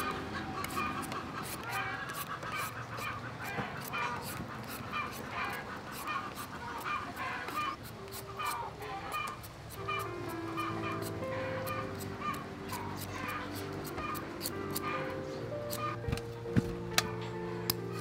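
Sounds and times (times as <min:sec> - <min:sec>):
knife scraping gourd skin: 0:00.0 - 0:15.0, 0:15.6 - 0:18.0
poultry calling: 0:00.0 - 0:18.0.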